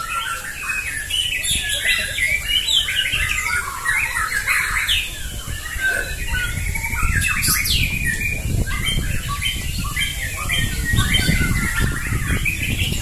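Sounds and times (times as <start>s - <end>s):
songbirds whistling and trilling: 0.0s - 13.0s.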